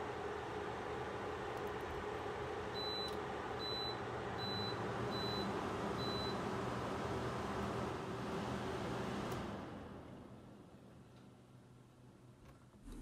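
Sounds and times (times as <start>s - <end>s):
air conditioner fan humming: 0.0s - 13.0s.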